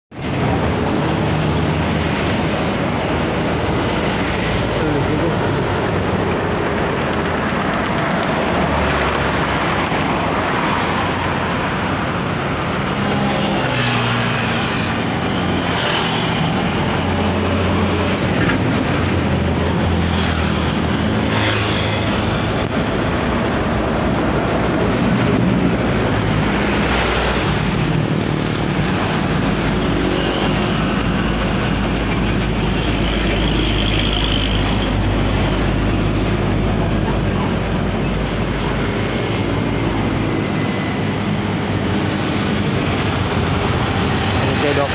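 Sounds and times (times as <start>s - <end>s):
train wheels rumbling on rails: 0.1s - 44.9s
train engine drone: 0.2s - 44.9s.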